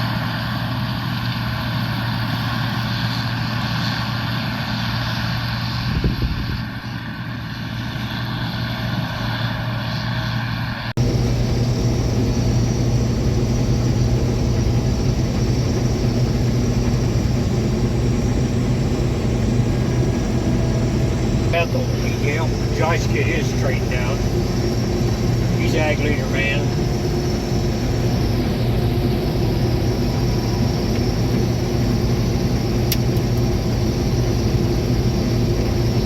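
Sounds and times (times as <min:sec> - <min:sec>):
combine harvester drone: 0:00.0 - 0:36.0.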